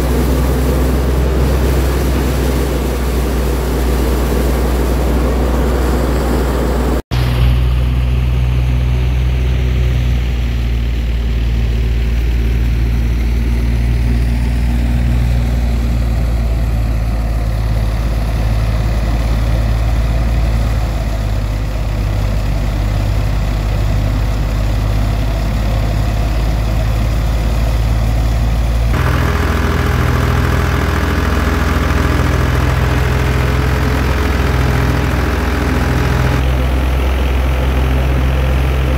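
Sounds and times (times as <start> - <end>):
threshing machine engine drone: 0.0 - 38.9.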